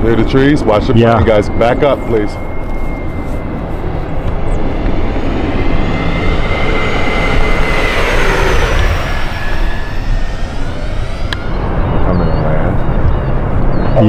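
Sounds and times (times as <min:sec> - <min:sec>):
model airliner engines whining: 0:00.0 - 0:14.0.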